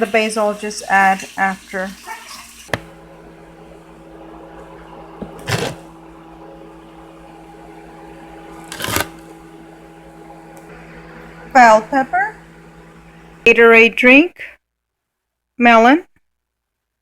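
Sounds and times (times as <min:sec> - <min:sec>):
kitchen appliance humming: 0:00.0 - 0:14.2.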